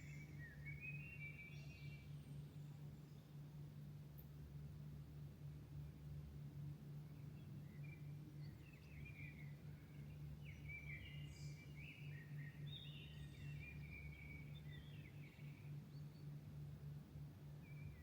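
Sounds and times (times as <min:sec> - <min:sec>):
songbirds singing: 0:00.0 - 0:04.4, 0:05.7 - 0:18.0
steady low hum: 0:00.0 - 0:18.0.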